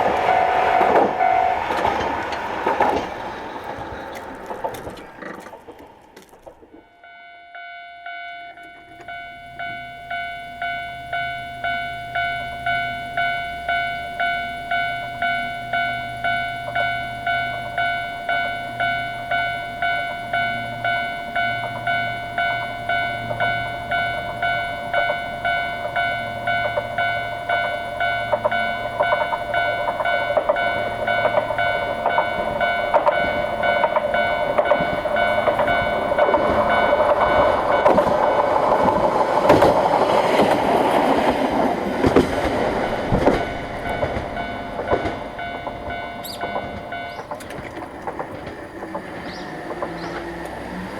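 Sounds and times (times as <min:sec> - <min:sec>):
train wheel clatter: 0:00.0 - 0:07.1, 0:08.5 - 0:50.9
diesel railcar rumble: 0:00.0 - 0:50.9
level-crossing warning bell: 0:00.0 - 0:50.9.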